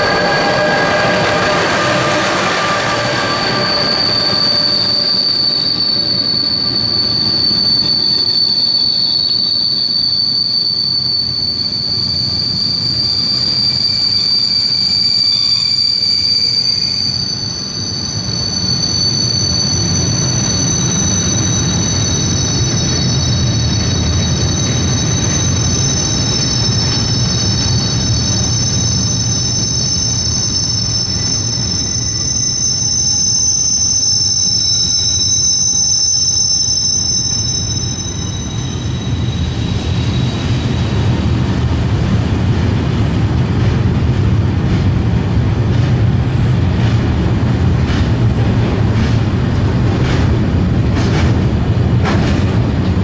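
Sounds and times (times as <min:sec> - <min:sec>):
high wheel squeal: 0:00.0 - 0:42.4
train wheels rumbling on rail: 0:00.0 - 0:53.0.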